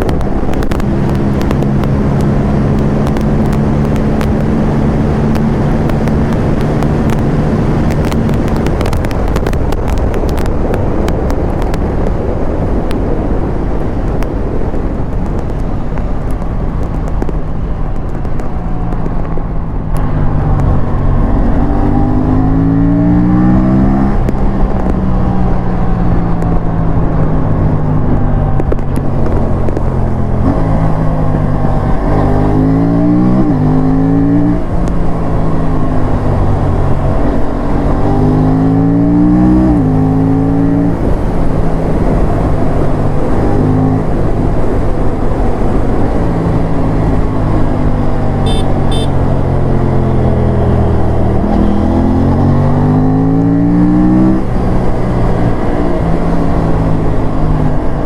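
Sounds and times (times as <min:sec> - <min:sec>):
motorcycle engine at full throttle: 0:00.0 - 0:58.0
wind noise on microphone: 0:00.0 - 0:58.0.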